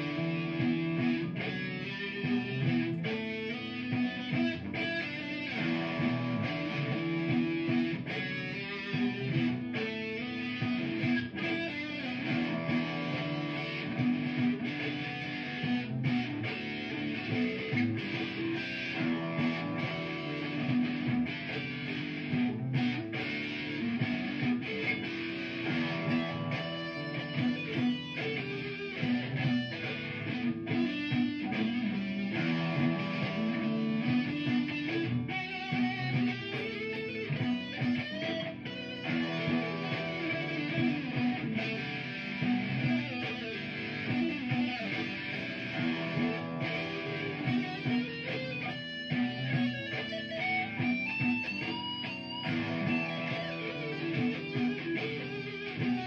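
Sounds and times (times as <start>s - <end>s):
electric guitar solo: 0.0s - 56.0s
looped guitar part: 0.0s - 56.0s.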